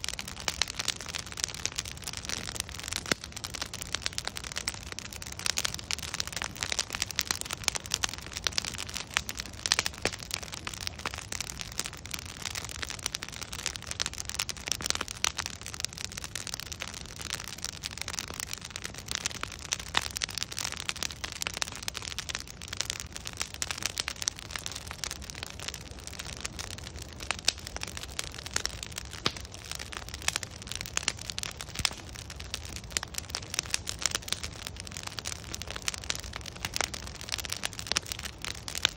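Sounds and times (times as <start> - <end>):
hiss and rumble of flames: 0.0 - 38.9
logs crackling and popping: 0.0 - 38.9.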